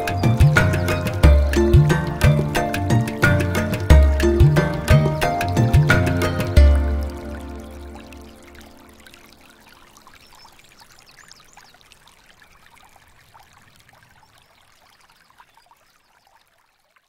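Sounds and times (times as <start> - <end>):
water trickling and babbling: 0.0 - 17.0.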